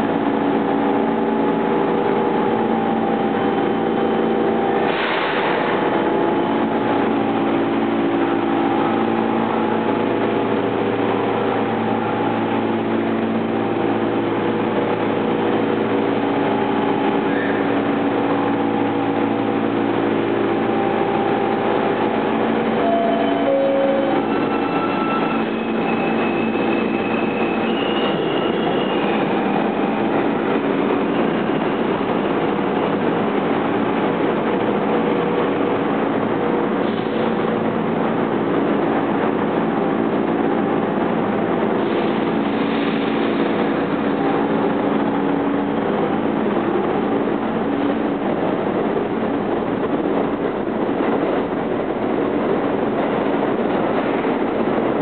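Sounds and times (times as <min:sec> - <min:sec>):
subway train rumbling: 0:00.0 - 0:55.0
train approaching: 0:00.0 - 0:55.0.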